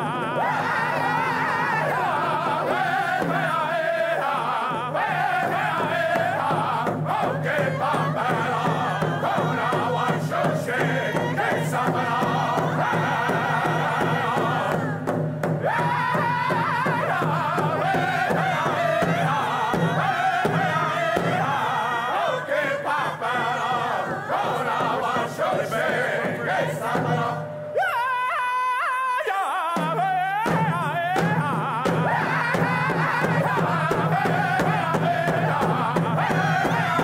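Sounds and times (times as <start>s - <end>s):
frame hand drums: 0.0s - 27.9s, 29.7s - 37.0s
group chanting song: 0.0s - 37.0s.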